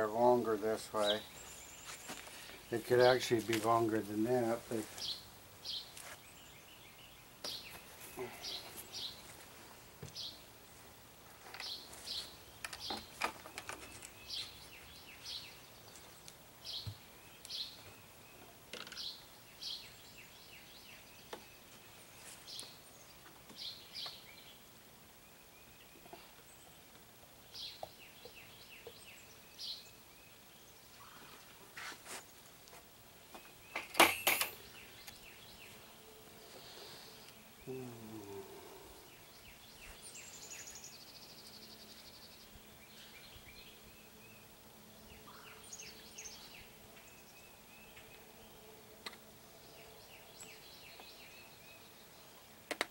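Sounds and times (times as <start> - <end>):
bird chirping: 0.0 - 9.3, 11.5 - 32.4, 33.2 - 52.9.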